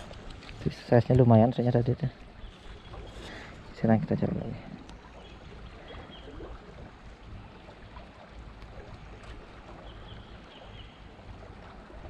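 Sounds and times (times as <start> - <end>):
shallow river water flowing: 0.0 - 12.0.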